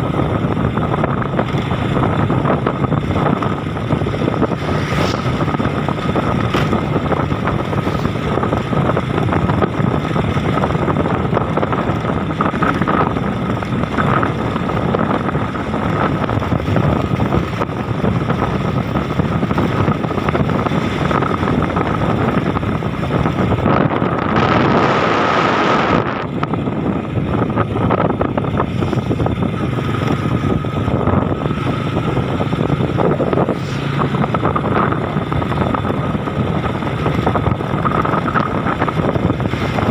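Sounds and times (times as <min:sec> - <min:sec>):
vehicle road noise: 0:00.0 - 0:39.9
wind on microphone: 0:00.0 - 0:39.9.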